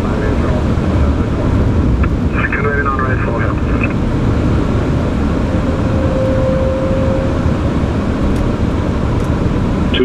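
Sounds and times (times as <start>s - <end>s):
cockpit airflow and engine rumble: 0.0s - 10.0s.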